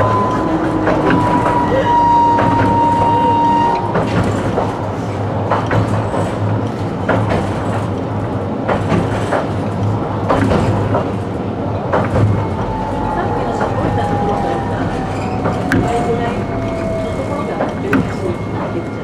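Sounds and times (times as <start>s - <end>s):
tram running low hum: 0.0s - 19.0s
wheels clicking on rails: 0.0s - 19.0s.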